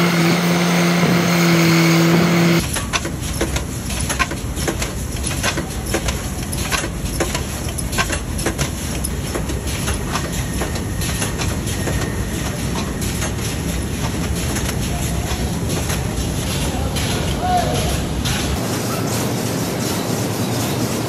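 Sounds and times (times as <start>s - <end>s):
machinery din: 0.0s - 19.6s.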